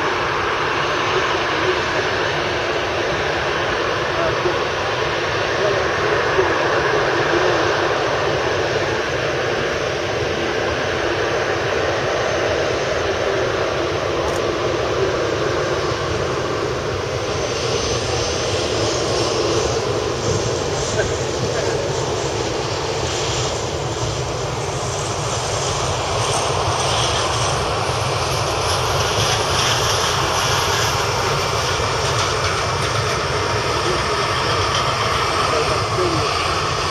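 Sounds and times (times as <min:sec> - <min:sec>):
jet engines running at taxi power: 0:00.0 - 0:36.9.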